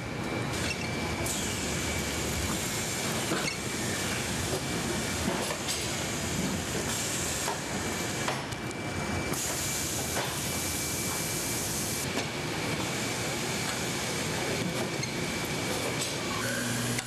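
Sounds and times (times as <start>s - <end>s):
factory machinery rumble and hiss: 0.0s - 17.0s.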